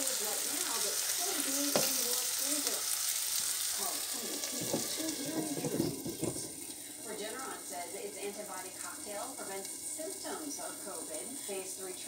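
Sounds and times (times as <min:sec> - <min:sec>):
cabbage sizzling in skillet: 0:00.0 - 0:12.0.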